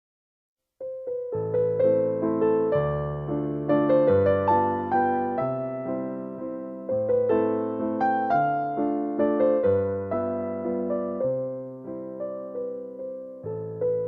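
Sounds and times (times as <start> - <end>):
slow piano music: 0.8 - 14.0.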